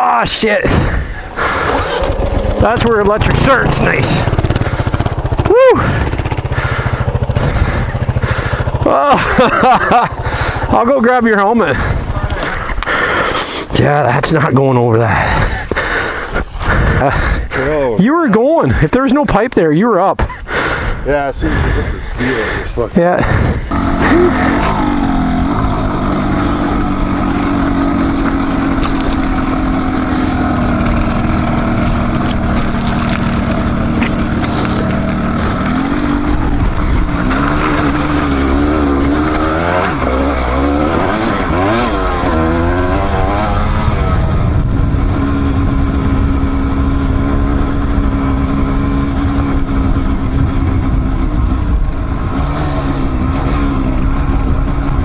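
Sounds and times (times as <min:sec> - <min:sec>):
motorcycle engine revving: 0:00.0 - 0:19.4, 0:20.2 - 0:55.0.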